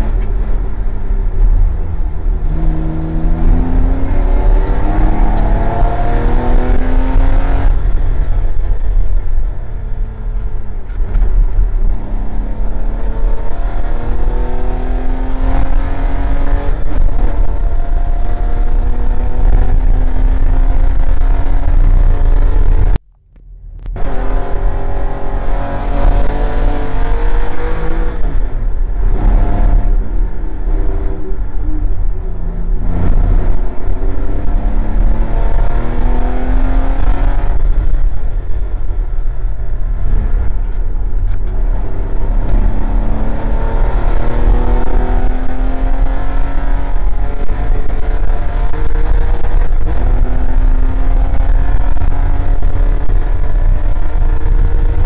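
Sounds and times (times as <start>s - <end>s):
race car engine accelerating: 0.0s - 23.0s, 24.0s - 55.0s.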